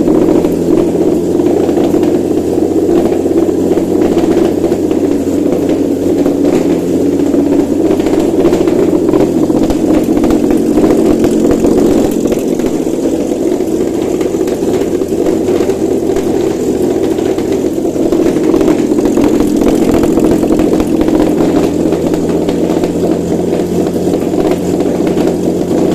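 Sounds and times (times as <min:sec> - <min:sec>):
car engine running steadily: 0:00.0 - 0:25.9.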